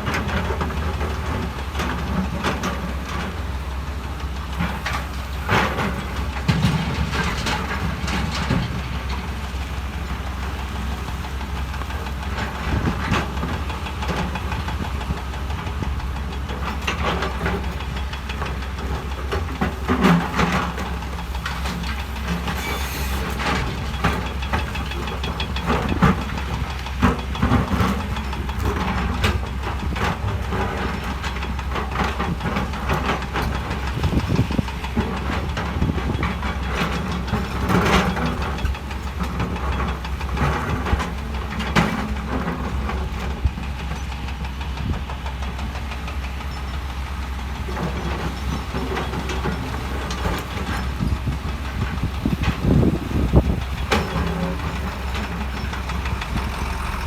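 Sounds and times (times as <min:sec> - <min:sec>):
diesel engines rumbling: 0:00.0 - 0:57.0.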